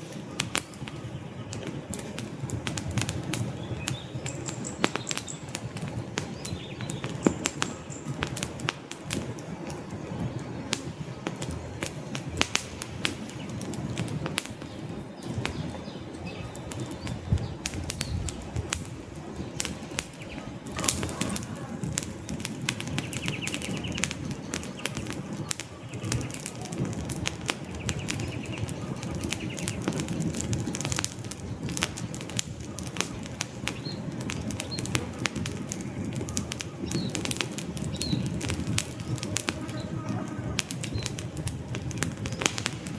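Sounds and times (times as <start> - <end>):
fireplace flames rumbling: 0.0 - 42.9
wood crackling and popping: 0.0 - 42.9.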